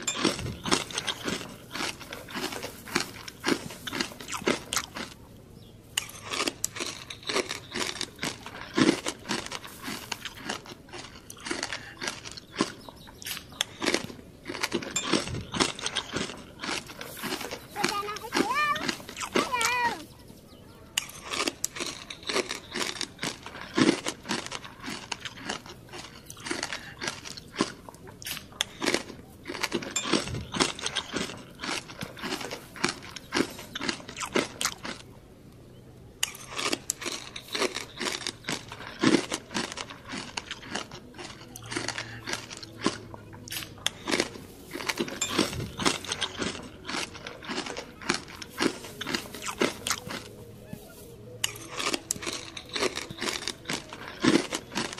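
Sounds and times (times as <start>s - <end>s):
crunching and chewing crispy skin: 0.0s - 54.9s.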